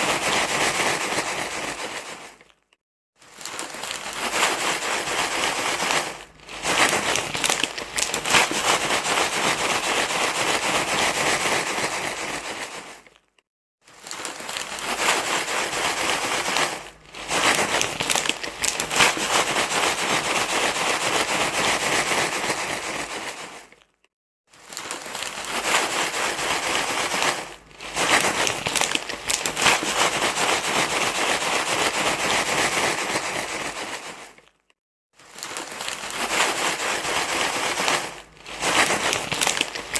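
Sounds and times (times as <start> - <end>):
material crinkling and rustling: 1.2 - 20.8, 22.4 - 39.9.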